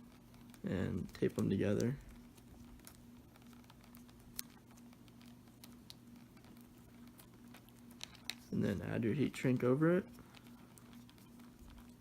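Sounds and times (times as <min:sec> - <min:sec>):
electrical tape wrapping ticks: 0:00.0 - 0:12.0
faint steady hum: 0:00.0 - 0:12.0.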